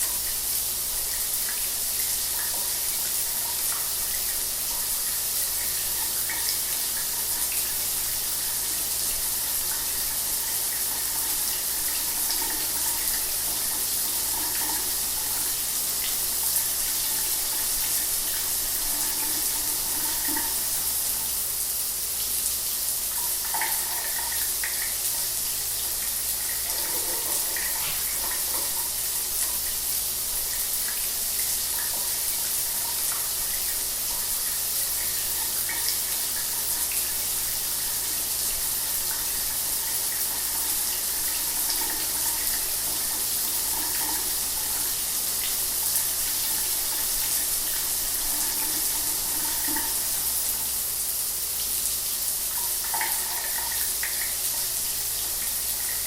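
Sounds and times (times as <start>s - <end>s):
shower water running: 0.0s - 56.0s.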